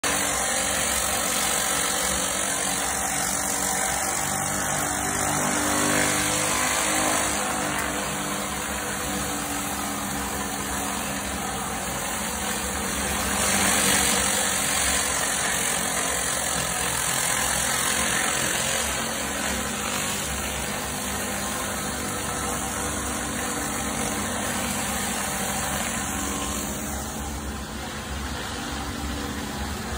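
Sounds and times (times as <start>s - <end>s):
pressure washer engine hum: 0.0s - 29.9s.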